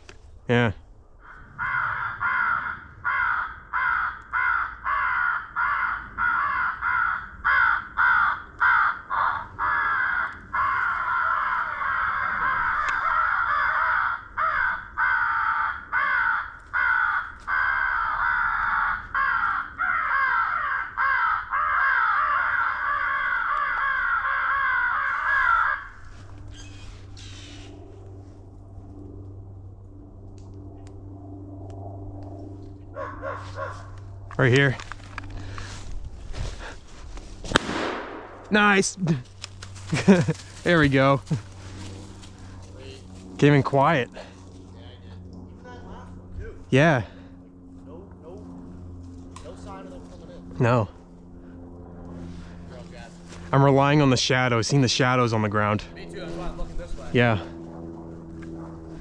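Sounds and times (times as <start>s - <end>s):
crows cawing: 1.1s - 29.1s, 32.1s - 59.0s.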